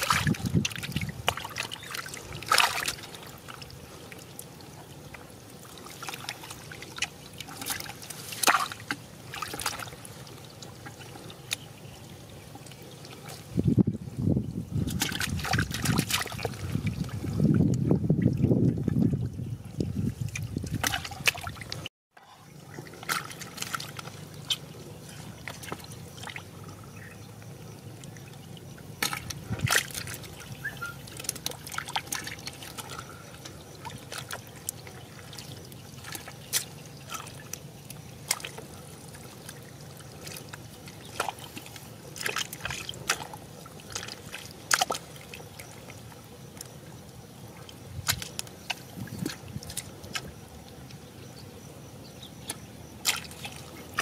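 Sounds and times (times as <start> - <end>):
short water splashes: 0.0 - 13.7, 14.6 - 51.0, 52.4 - 54.0
shallow water trickling: 0.0 - 54.0.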